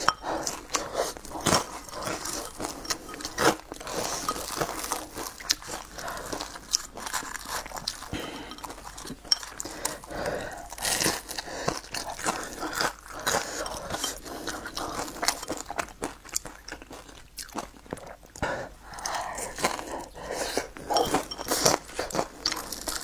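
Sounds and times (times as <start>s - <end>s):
chewing crispy fried food: 0.0s - 23.0s.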